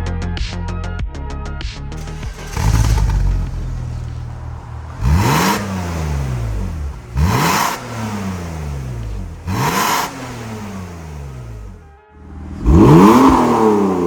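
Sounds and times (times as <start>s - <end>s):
car engine revving from idle: 2.0s - 14.0s.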